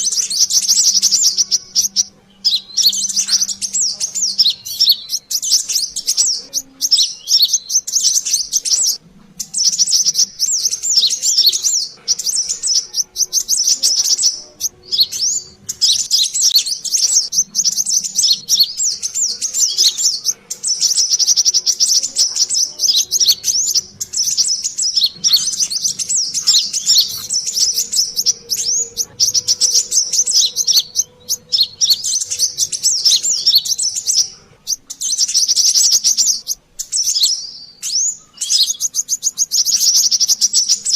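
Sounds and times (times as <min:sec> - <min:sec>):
sunbird chirping: 0:00.0 - 0:40.9.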